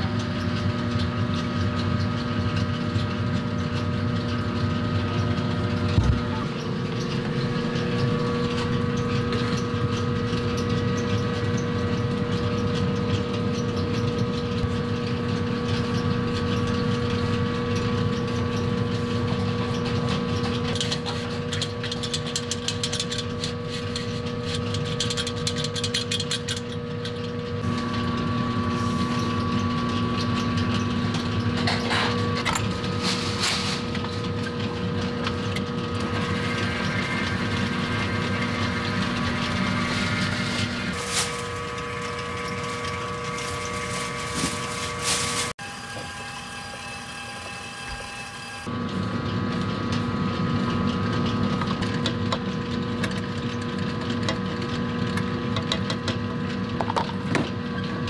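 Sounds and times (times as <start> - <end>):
kitchen machinery humming: 0.0 - 58.0.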